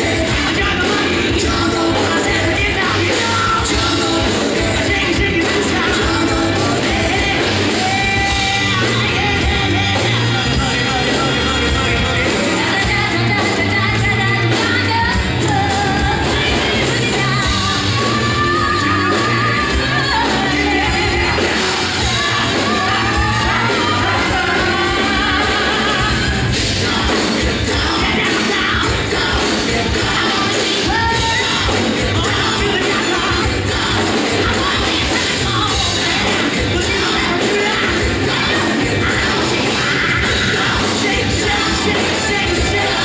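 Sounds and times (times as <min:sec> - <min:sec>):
live rock band music: 0:00.0 - 0:43.0
person singing: 0:00.0 - 0:43.0.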